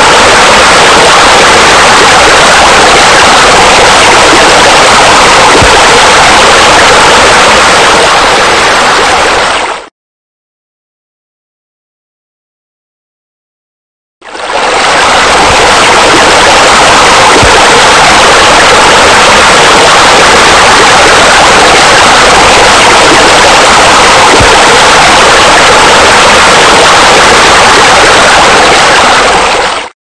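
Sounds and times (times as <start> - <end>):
running water rushing: 0.0 - 9.9, 14.2 - 30.0.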